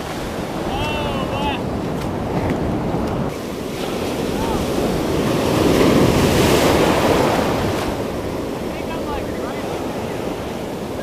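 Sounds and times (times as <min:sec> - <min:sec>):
surf breaking on sand: 0:00.0 - 0:11.0
wind buffeting microphone: 0:00.0 - 0:11.0.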